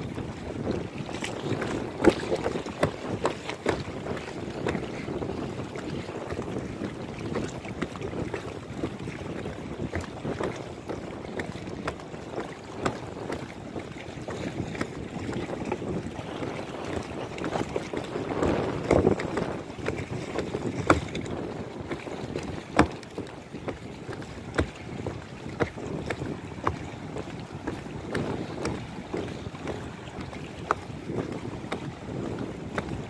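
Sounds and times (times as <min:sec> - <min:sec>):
knocks from floating walkway: 0:00.0 - 0:33.0
sea water sloshing: 0:00.0 - 0:33.0
wind buffeting microphone: 0:00.0 - 0:33.0.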